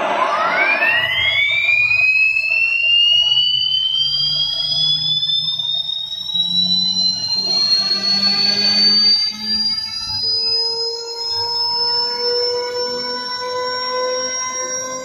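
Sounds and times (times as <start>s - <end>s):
router spindle whine rising: 0.0s - 15.0s.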